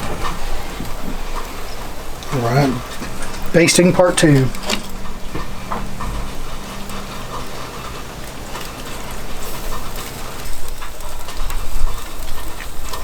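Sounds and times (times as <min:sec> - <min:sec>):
low rumble: 0:00.0 - 0:11.4
chicken sizzling on grill: 0:00.0 - 0:13.0.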